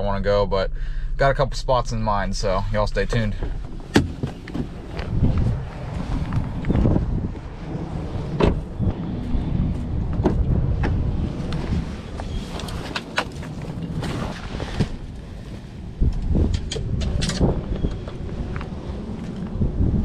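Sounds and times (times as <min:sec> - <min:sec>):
wind rumble on microphone: 0:03.0 - 0:20.0.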